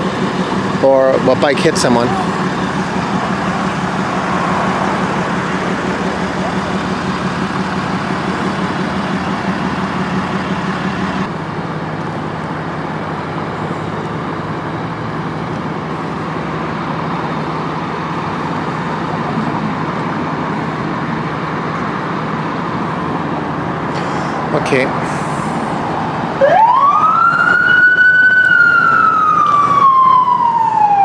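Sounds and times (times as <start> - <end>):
low vehicle engine drone: 0.0 - 31.0
road traffic noise: 0.0 - 31.0.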